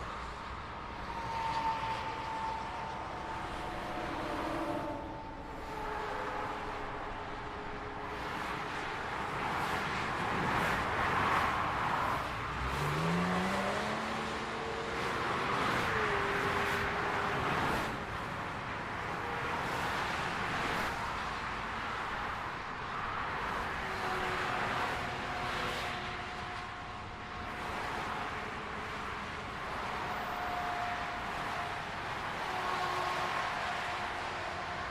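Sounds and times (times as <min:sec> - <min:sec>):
highway traffic rushing past: 0:00.0 - 0:34.9.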